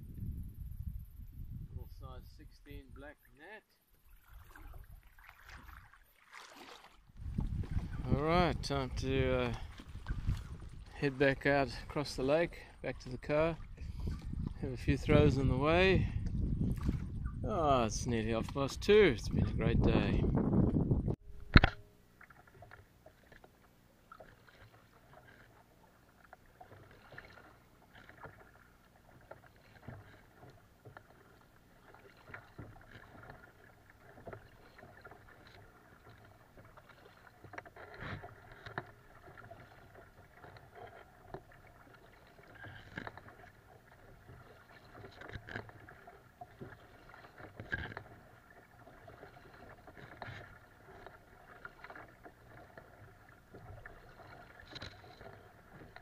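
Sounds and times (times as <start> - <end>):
paddle splashing water: 2.8 - 56.0.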